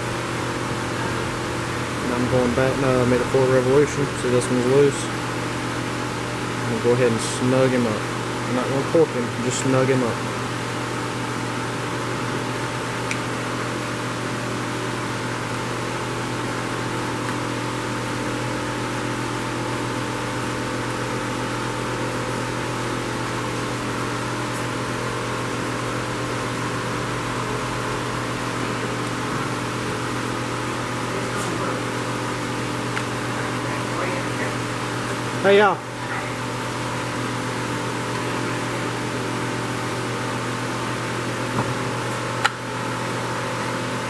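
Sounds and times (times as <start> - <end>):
electric fan running: 0.0 - 44.0.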